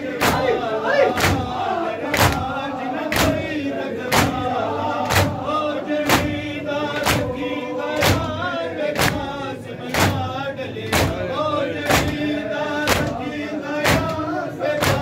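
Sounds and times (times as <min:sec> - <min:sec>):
group chanting a lament: 0:00.0 - 0:15.0
men striking their chests: 0:00.0 - 0:15.0.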